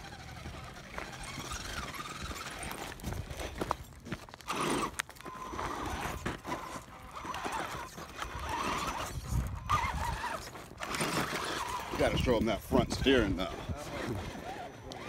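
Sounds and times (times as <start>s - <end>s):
stones clattering under tyres: 0.0s - 13.0s
toy car motor whining: 0.0s - 15.0s.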